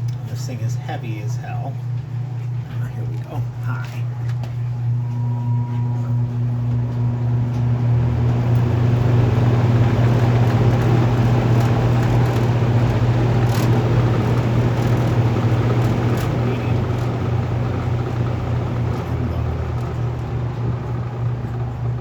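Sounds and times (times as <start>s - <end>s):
box fan motor hum: 0.0s - 22.0s.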